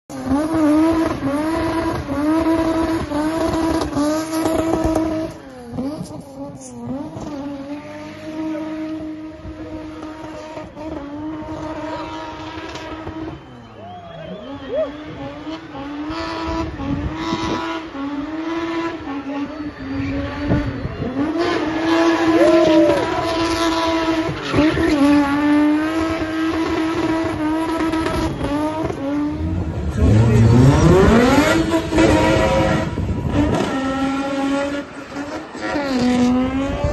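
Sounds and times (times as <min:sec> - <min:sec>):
car engine at high revs: 0:00.0 - 0:36.9.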